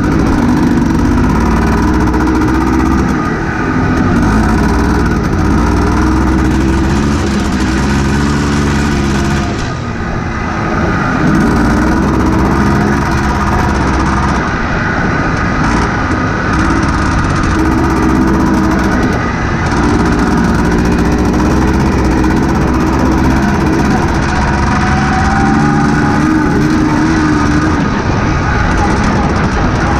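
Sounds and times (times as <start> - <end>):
buggy engine running: 0.0 - 29.9.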